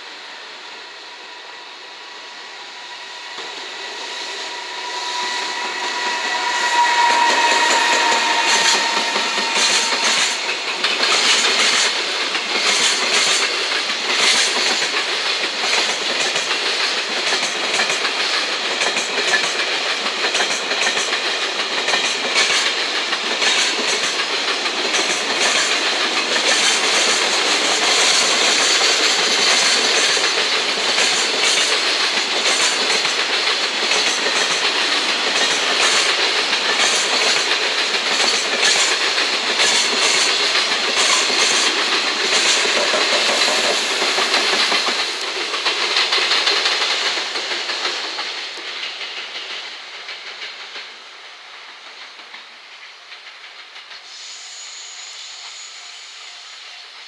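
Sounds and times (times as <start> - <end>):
electric locomotive whine: 0.0 - 57.0.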